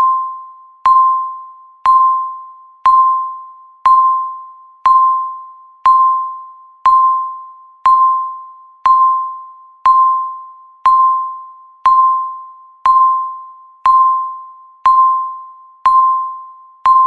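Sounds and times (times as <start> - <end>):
countdown timer beeps: 0.0 - 17.0.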